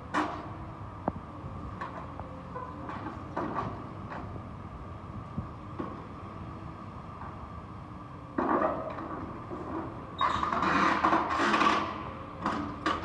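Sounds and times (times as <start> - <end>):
excavator running: 0.0 - 13.0.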